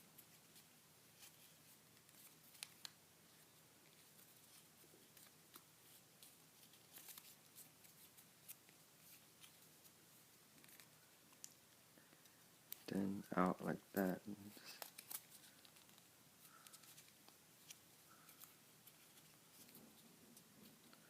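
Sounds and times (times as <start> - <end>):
paper being folded: 0.2 - 11.6, 13.8 - 21.0.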